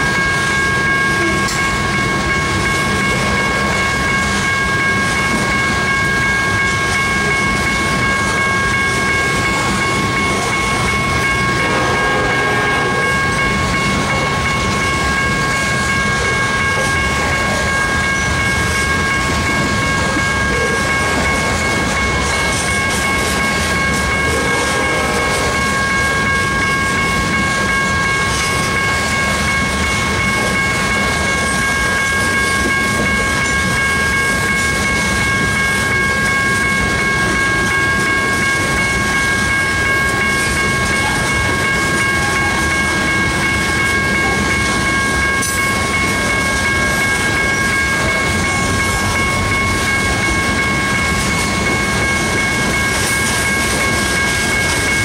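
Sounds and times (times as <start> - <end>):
train cars rumbling on rails: 0.0 - 55.0.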